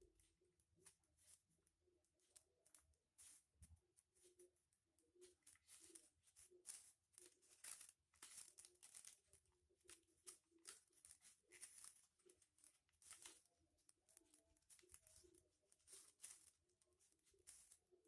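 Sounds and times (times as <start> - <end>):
foil paper crinkling: 0.0 - 18.0.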